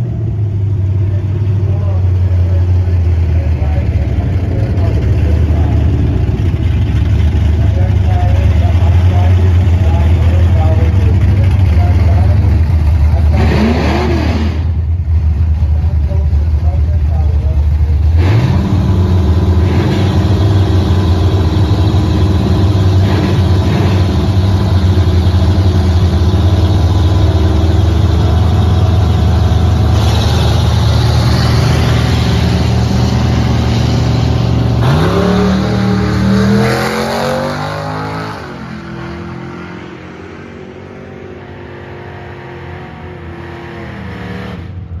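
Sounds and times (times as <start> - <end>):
race car engines idling: 0.0 - 37.3
car engine revving: 0.0 - 45.0.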